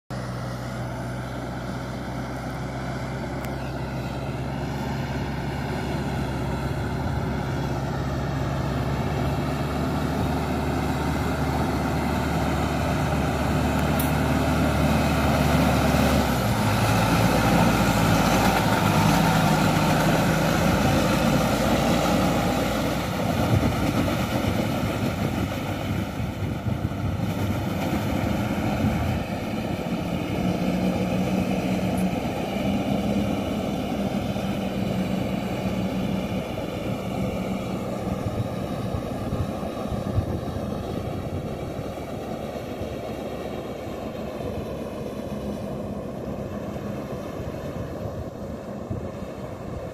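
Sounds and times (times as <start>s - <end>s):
tractor engine running under load: 0.1s - 49.9s.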